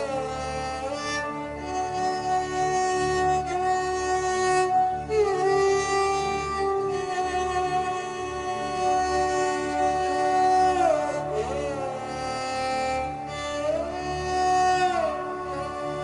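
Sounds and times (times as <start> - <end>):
slow ambient music: 0.0 - 16.0.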